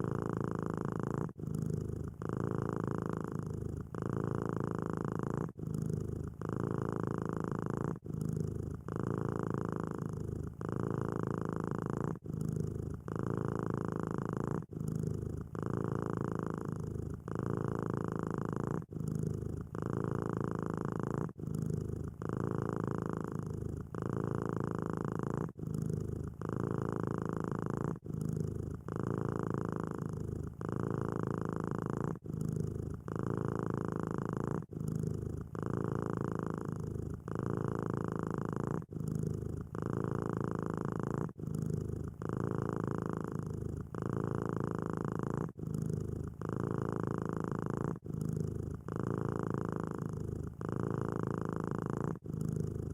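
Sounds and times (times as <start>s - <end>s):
cat purring: 0.0s - 52.9s.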